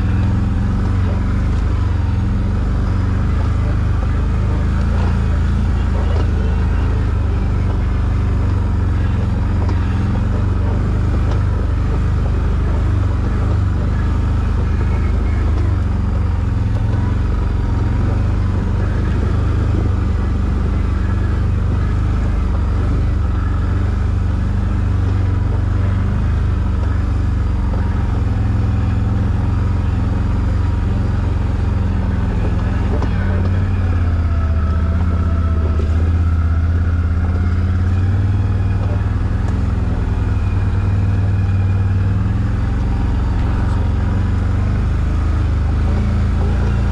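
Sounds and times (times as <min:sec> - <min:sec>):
atv engine running steadily: 0:00.0 - 0:46.9.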